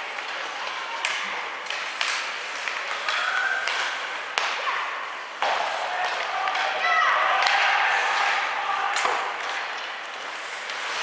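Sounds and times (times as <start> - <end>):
crowd voices: 0.0 - 11.0
hockey sticks and puck clacking: 0.0 - 11.0.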